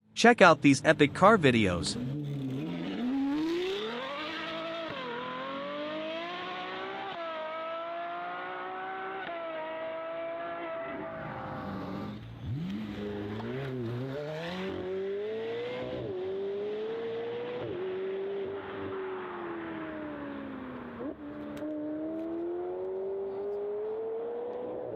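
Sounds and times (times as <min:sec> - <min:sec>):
car engine accelerating hard: 0:01.0 - 0:24.9.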